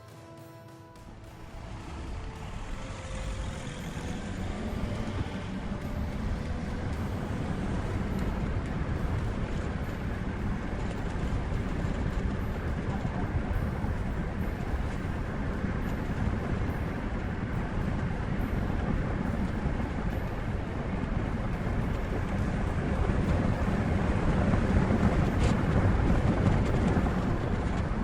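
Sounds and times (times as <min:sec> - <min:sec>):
heavy vehicle rumbling: 0:01.0 - 0:28.0.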